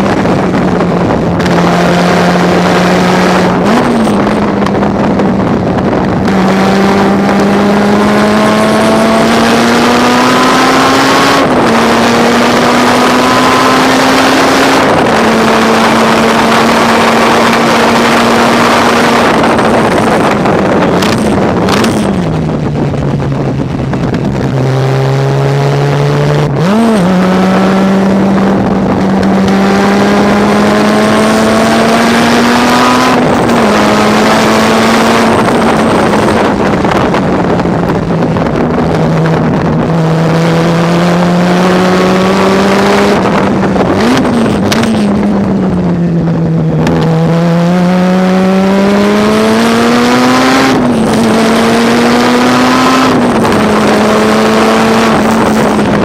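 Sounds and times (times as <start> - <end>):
engine throttle blips: 0.0 - 56.0
race engine at high revs: 0.0 - 56.0.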